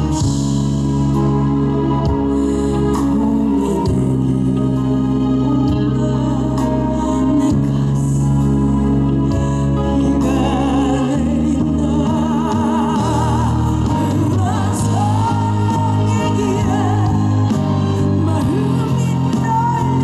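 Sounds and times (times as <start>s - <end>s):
live band playing slow ballad: 0.0s - 20.0s
melody with wide vibrato: 0.0s - 20.0s.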